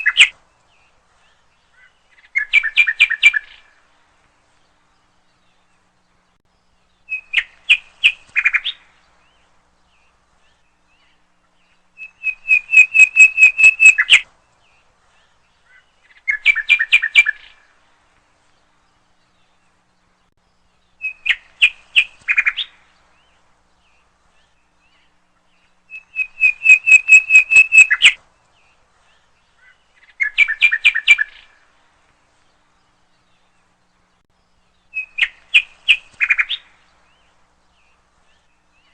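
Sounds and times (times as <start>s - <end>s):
nightingale singing: 0.0s - 3.8s, 4.5s - 17.8s, 18.4s - 31.8s, 32.4s - 38.9s.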